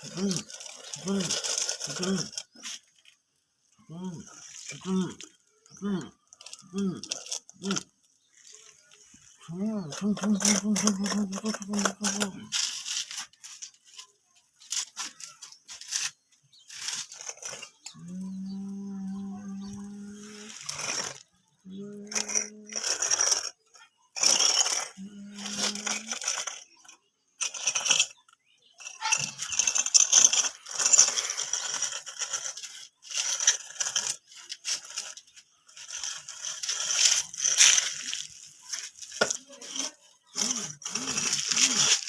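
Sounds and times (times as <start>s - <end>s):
scraping and rattling bursts: 0.0s - 42.0s.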